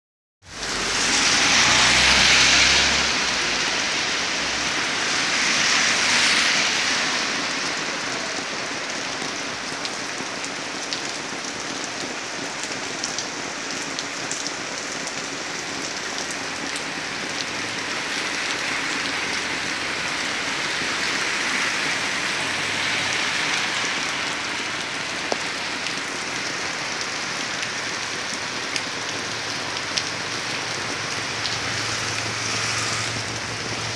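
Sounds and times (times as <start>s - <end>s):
heavy rain on asphalt: 0.4s - 33.9s.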